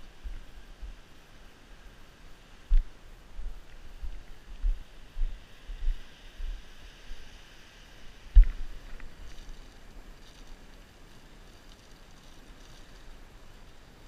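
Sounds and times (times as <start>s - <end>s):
wind hiss: 0.0s - 14.0s.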